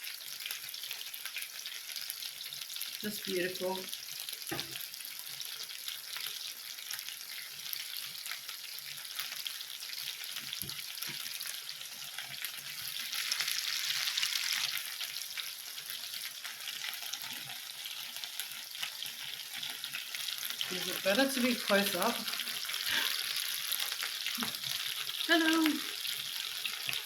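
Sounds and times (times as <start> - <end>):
meat sizzling in oil: 0.0 - 27.0.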